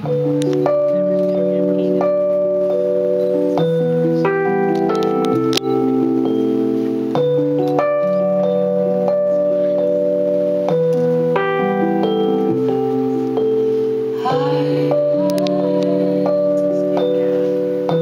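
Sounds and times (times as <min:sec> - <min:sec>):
keyboard piano chords: 0:00.0 - 0:18.0.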